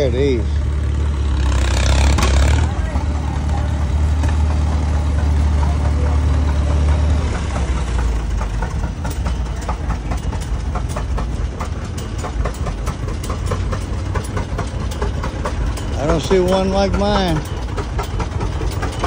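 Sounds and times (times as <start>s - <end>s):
regular engine ticking: 0.0s - 19.0s
tractor engine idling: 0.0s - 19.0s.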